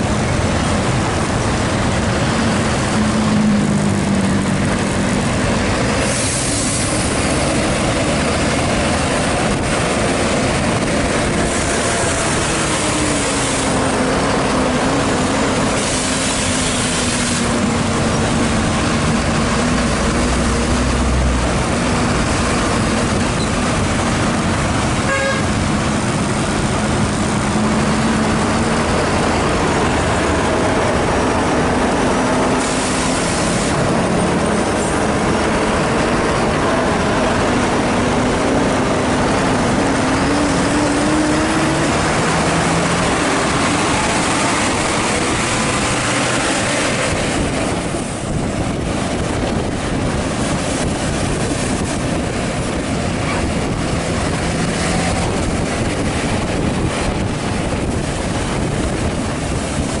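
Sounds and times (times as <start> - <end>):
bus engine droning: 0.0 - 60.0
road and wind noise: 0.0 - 60.0.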